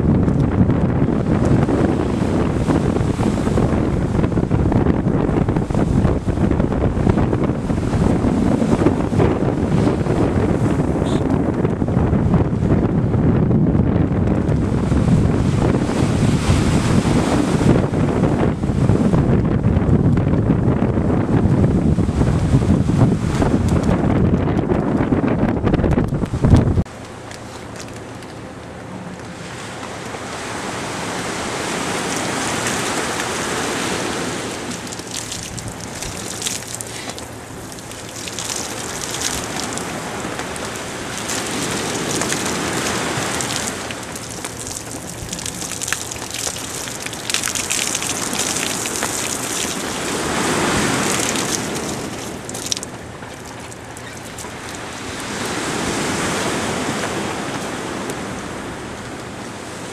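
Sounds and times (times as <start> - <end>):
choppy sea rushing: 0.0 - 59.9
strong wind buffeting microphone: 0.0 - 59.9.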